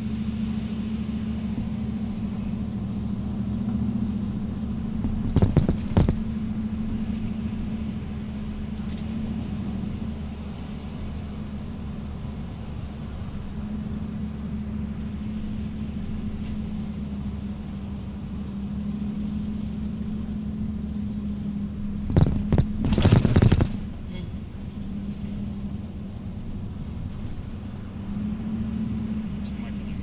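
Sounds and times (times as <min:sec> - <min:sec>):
vehicle engine and tyre noise: 0:00.0 - 0:30.0.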